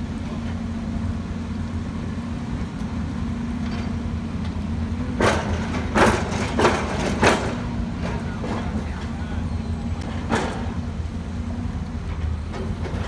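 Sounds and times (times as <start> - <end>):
diesel construction machinery humming: 0.0 - 13.0.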